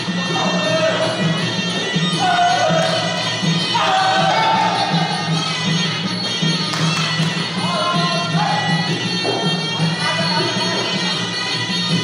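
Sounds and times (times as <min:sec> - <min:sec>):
reed pipe gliding melody: 0:00.0 - 0:12.0.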